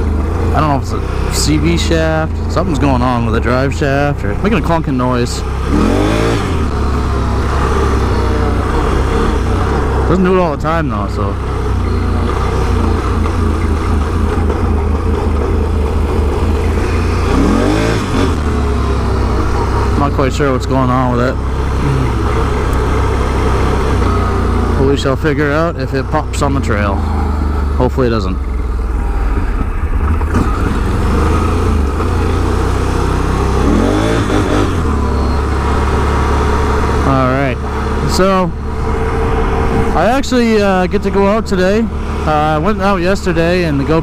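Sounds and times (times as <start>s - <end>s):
atv engine droning: 0.0s - 44.0s.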